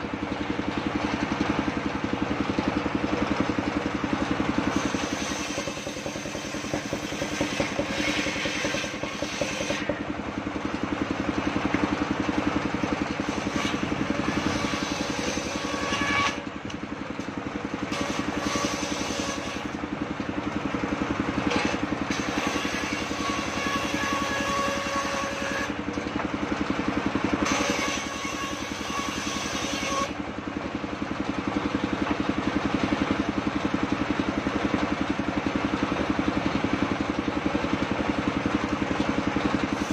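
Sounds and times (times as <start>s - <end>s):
circular saw blade cutting log: 0.0s - 39.9s
engine running: 0.0s - 39.9s.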